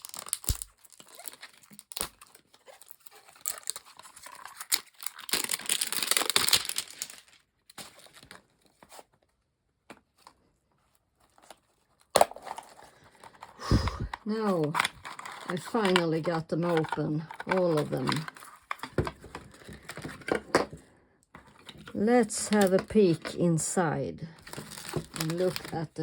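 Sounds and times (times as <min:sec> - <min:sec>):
plastic packaging crinkling: 0:00.0 - 0:09.2, 0:10.9 - 0:20.6, 0:21.4 - 0:23.3, 0:24.4 - 0:26.0.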